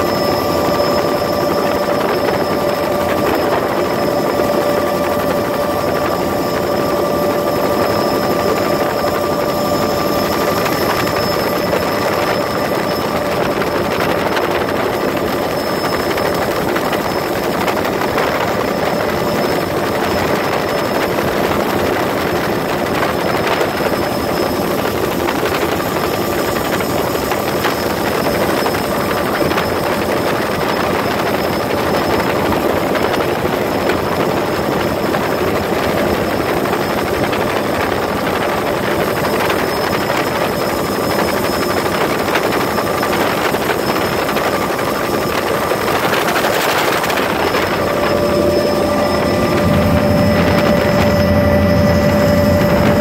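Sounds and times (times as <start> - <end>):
helicopter engine and rotor noise: 0.0 - 53.0.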